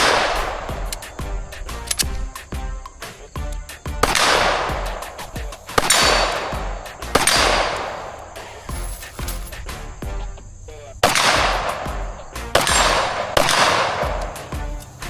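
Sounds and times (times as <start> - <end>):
background music with steady beat: 0.0 - 15.0
sharp cracks: 0.0 - 15.0.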